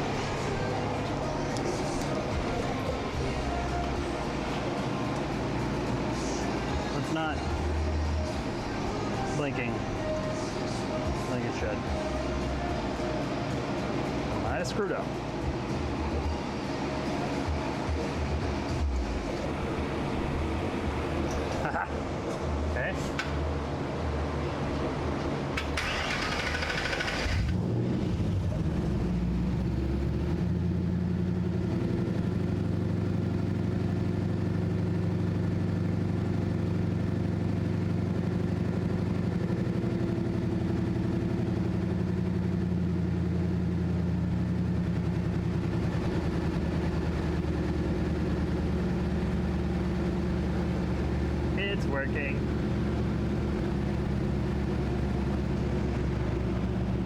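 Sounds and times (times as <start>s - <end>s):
truck engine starting and idling: 0.0s - 57.0s.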